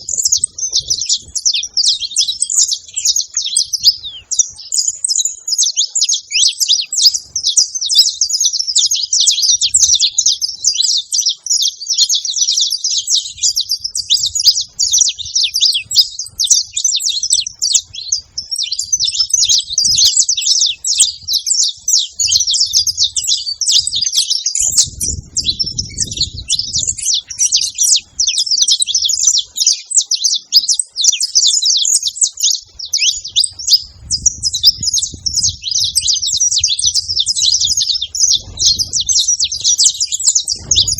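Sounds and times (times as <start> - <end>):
finches chirping and singing: 0.0 - 40.9.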